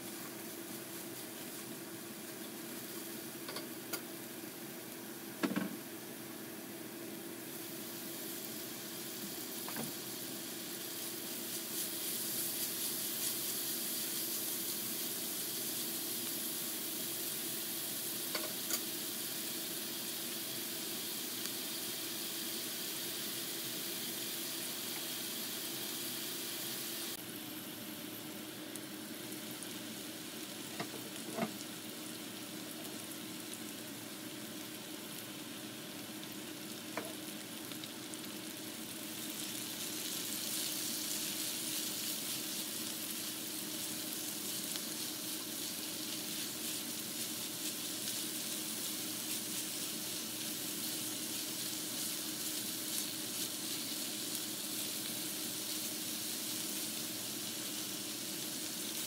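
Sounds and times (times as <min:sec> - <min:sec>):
vegetables sizzling in a skillet: 0:00.0 - 0:59.0.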